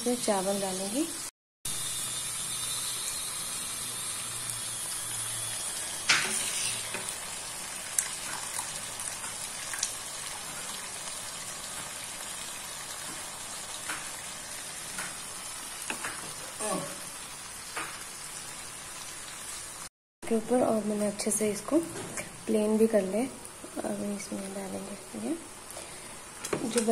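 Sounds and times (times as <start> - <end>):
food sizzling in a pan: 0.0 - 19.9, 22.5 - 26.9.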